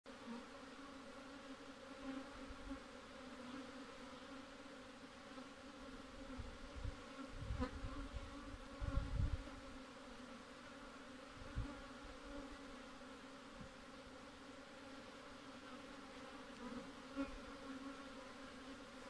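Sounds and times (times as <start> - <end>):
honeybees buzzing: 0.1 - 19.0.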